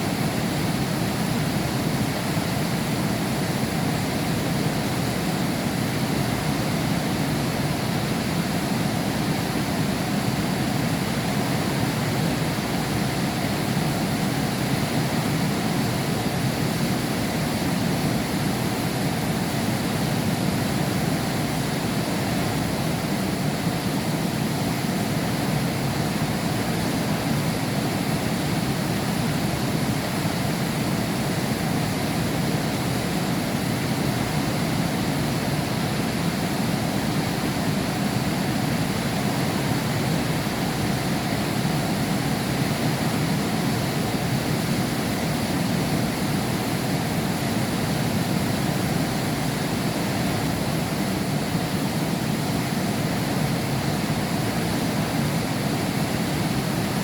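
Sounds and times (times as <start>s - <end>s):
heavy rain behind window: 0.0s - 57.0s.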